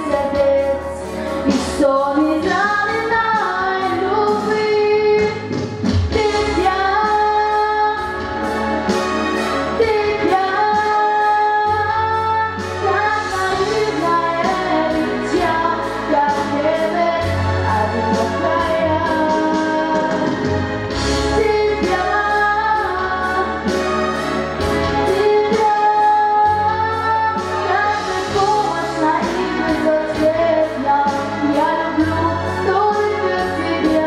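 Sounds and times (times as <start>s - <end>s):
instrumental music with beat: 0.0s - 34.0s
woman singing into a microphone: 0.0s - 34.0s.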